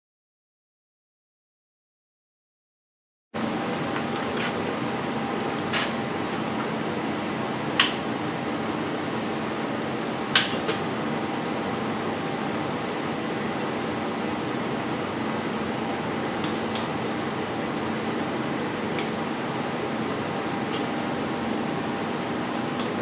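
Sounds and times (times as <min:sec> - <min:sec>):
fan-like whirring hum: 0:03.4 - 0:23.0.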